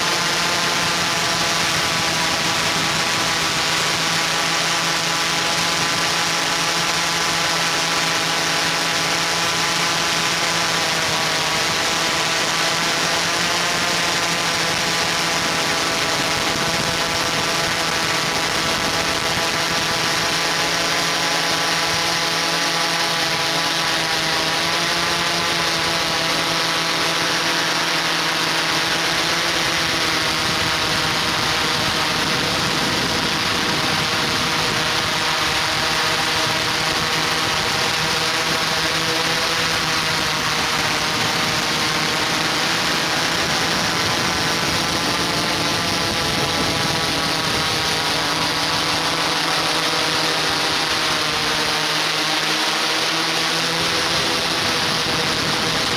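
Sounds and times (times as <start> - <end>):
drone propellers whining: 0.0 - 55.9.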